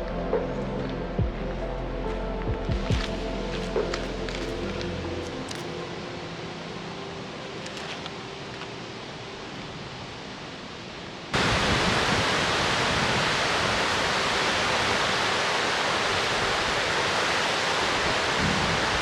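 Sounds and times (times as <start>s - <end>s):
river water rushing: 3.0s - 19.0s.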